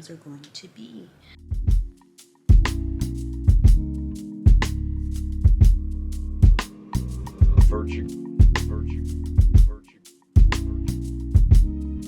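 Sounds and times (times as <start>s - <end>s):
background music with drum beat: 1.5s - 11.8s.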